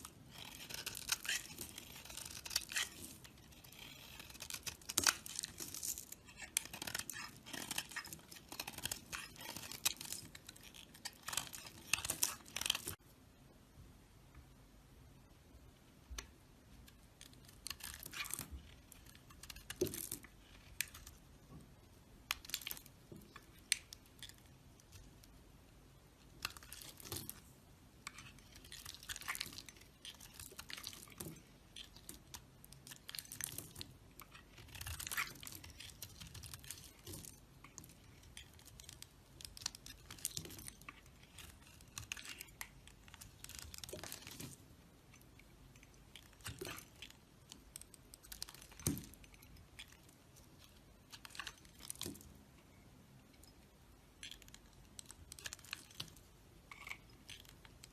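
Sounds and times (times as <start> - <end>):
knife cutting and scraping soap: 0.0 - 13.0, 16.1 - 57.9.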